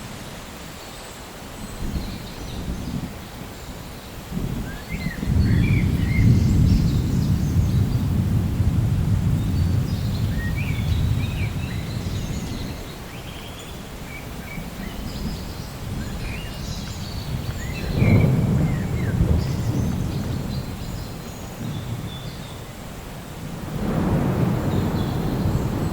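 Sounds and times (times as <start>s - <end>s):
rolling thunder: 4.2s - 13.0s, 14.0s - 25.9s.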